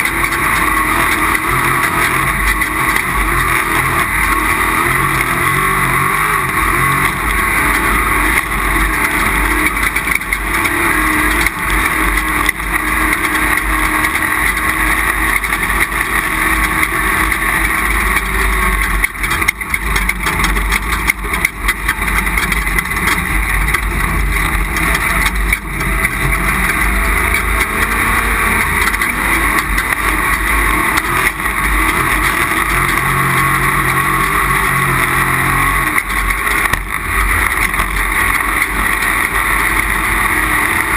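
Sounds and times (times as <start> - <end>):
off-road vehicle engine under load: 0.0 - 40.9
steady rushing noise: 0.0 - 40.9.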